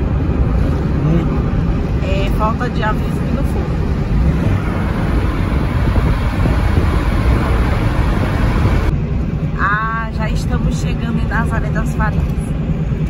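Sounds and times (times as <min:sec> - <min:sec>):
car engine and tyres rumbling: 0:00.0 - 0:13.0
wind noise: 0:00.0 - 0:13.0.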